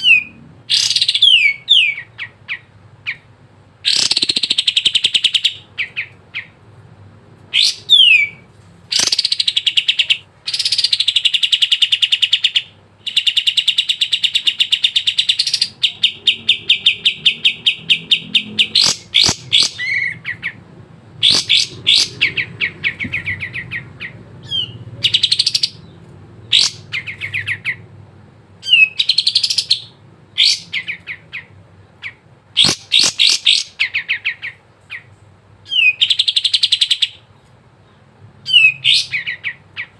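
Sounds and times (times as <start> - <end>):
bird singing trills and whistles: 0.0 - 3.3, 3.9 - 6.6, 7.5 - 20.6, 21.2 - 27.8, 28.6 - 37.4, 38.4 - 39.9.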